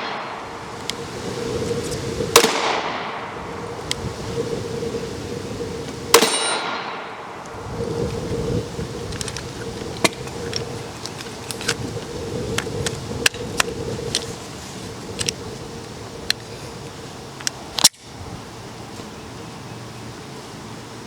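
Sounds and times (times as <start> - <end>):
hum: 0.0 - 18.8
wind noise: 0.0 - 19.5.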